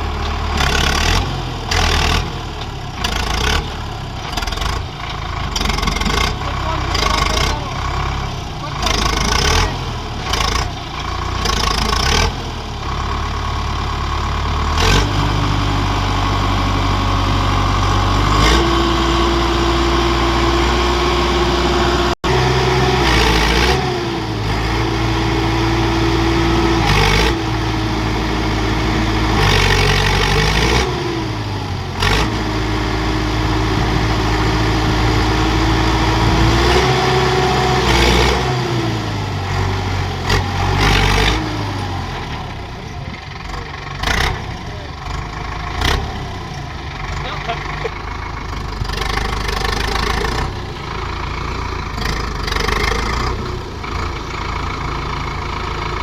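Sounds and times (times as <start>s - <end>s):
tractor diesel engines revving: 0.0s - 56.0s.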